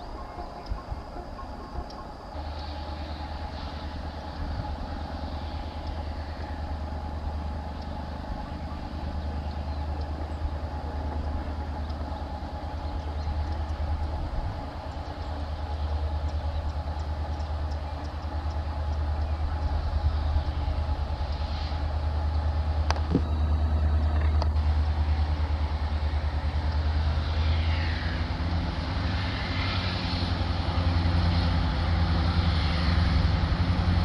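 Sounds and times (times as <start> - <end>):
diesel locomotive rumble: 0.0 - 34.0
locomotive whine: 0.0 - 34.0.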